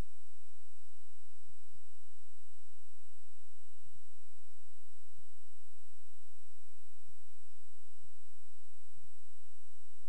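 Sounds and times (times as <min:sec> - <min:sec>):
high-pitched whine: 0:00.0 - 0:10.0
recording hiss: 0:00.0 - 0:10.0.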